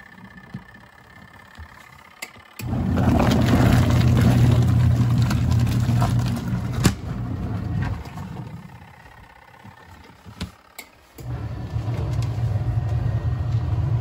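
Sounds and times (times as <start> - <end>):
washing machine motor humming: 0.0 - 14.0.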